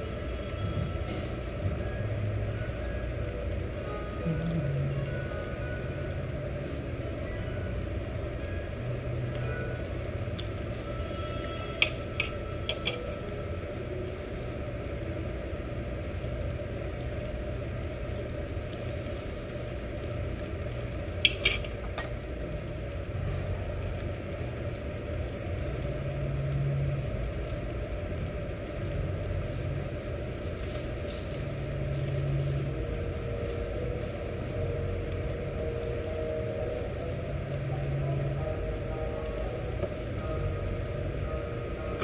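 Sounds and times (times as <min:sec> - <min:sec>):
food sizzling on a grill: 0:00.0 - 0:42.0
low hum: 0:00.0 - 0:42.0.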